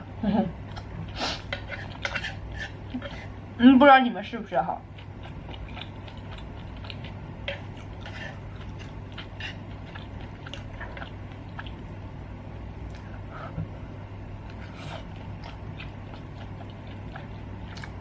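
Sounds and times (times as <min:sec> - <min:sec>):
low steady hum: 0:00.0 - 0:18.0
person chewing food: 0:00.6 - 0:03.4, 0:04.9 - 0:12.2, 0:12.8 - 0:18.0.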